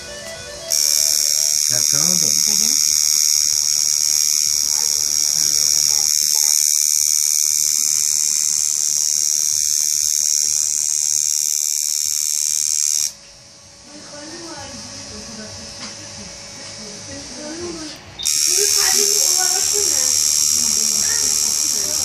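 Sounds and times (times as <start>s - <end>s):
tattoo machine whine: 0.0s - 22.0s.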